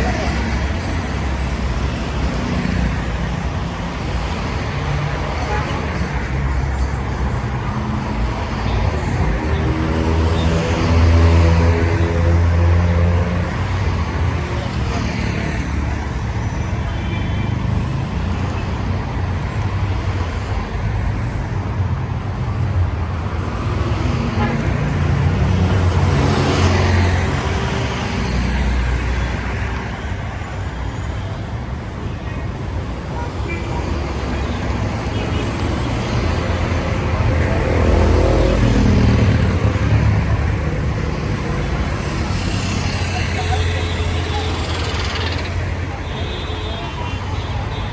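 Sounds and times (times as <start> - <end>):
passing car traffic: 0.0 - 47.9.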